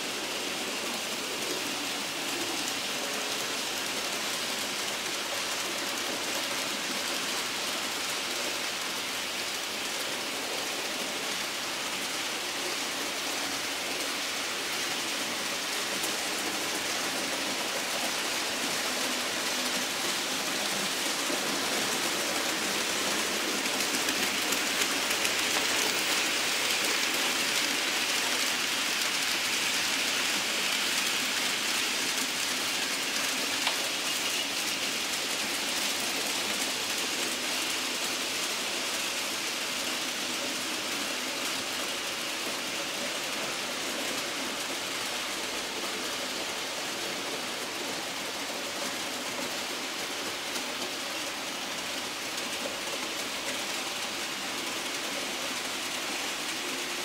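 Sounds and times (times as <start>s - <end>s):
model train wheels rolling: 0.0s - 57.0s.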